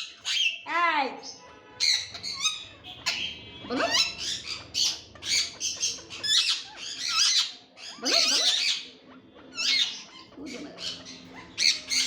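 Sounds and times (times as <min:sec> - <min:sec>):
parrot chattering and squawking: 0:00.0 - 0:00.7, 0:01.3 - 0:12.0.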